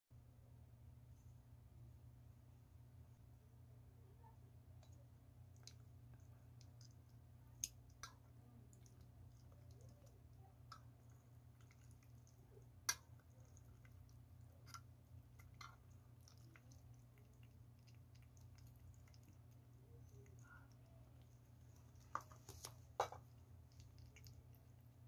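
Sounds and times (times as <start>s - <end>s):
faint low hum: 0.1s - 25.0s.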